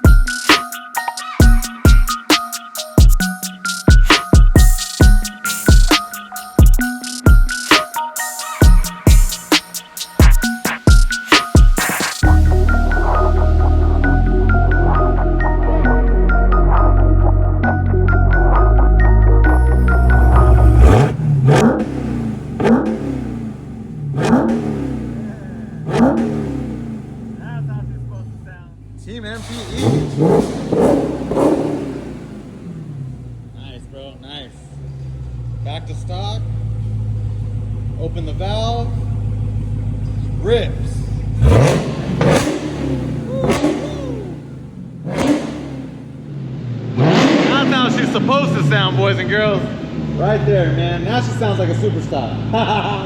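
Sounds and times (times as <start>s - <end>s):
car engine revving: 8.5s - 53.0s.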